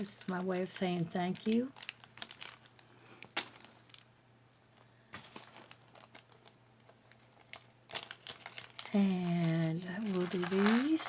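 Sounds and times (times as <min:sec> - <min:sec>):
light clicks and crinkles: 0:00.0 - 0:04.1, 0:04.7 - 0:11.0.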